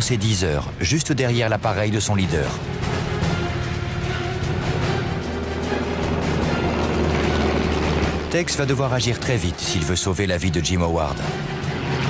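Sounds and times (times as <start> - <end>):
low drone music: 0.0 - 12.0.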